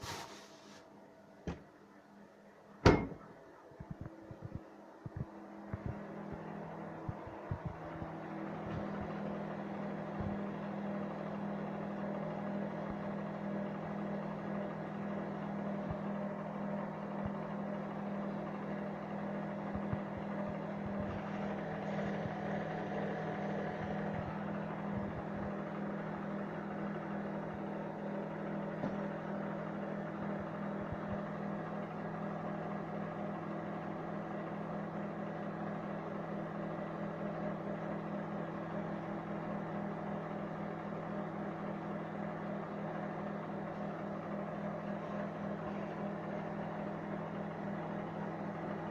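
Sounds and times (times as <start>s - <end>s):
microwave oven hum: 0.0s - 48.9s.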